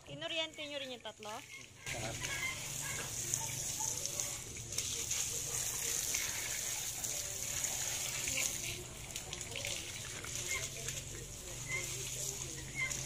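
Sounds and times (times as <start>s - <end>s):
water splashing on concrete floor: 0.0s - 13.0s
water pouring into mesh basket: 1.0s - 13.0s.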